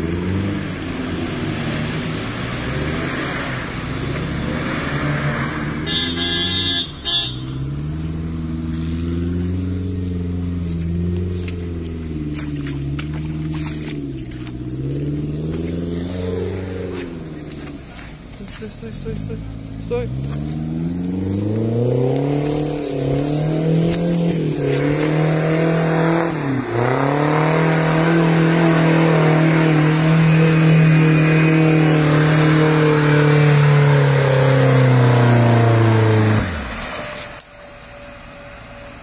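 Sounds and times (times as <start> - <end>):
off-road engine revving: 0.0 - 38.7.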